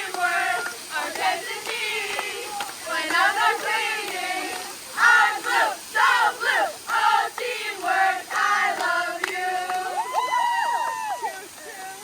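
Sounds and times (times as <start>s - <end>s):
young voices chanting: 0.0s - 10.4s.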